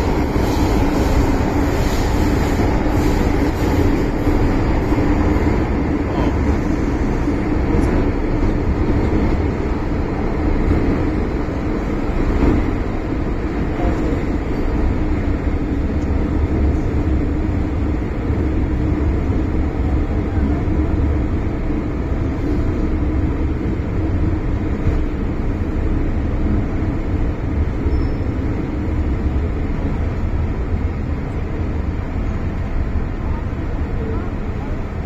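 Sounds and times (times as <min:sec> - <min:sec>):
train interior rumble: 0:00.0 - 0:35.0.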